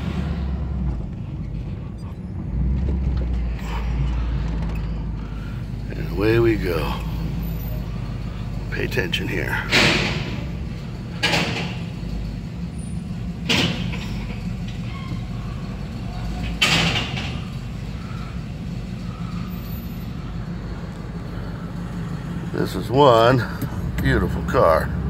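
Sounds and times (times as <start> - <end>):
car engine rumbling: 0.0 - 25.0
exhaust rattling: 0.0 - 25.0.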